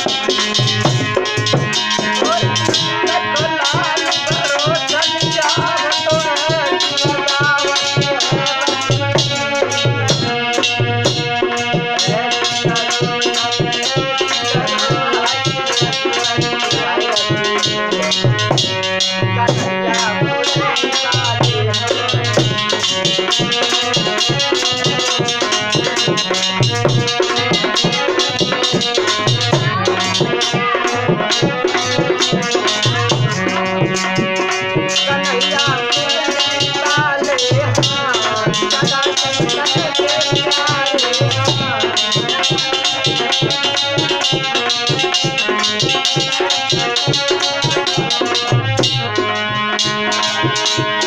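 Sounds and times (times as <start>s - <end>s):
dholak drum beat: 0.0s - 51.0s
ornamented wavering melody: 0.0s - 51.0s.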